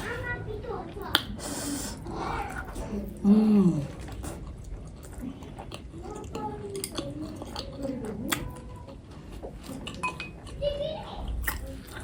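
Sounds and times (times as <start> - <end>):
faint children's voices: 0.0 - 4.4, 5.0 - 12.0
close chewing mouth sounds: 0.0 - 12.0.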